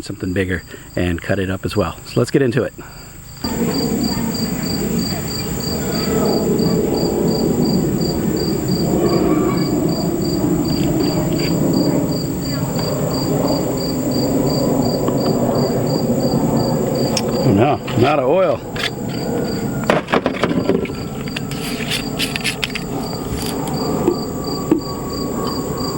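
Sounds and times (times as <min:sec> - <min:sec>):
crickets chirping: 0:00.0 - 0:25.9
steady high hum: 0:00.0 - 0:25.9
low rushing noise: 0:03.4 - 0:25.9.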